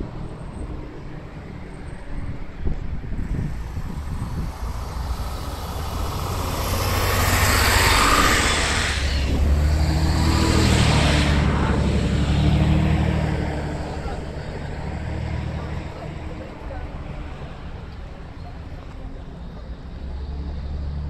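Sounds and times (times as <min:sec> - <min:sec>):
low engine hum: 0:00.0 - 0:21.0
traffic passing: 0:00.0 - 0:21.0.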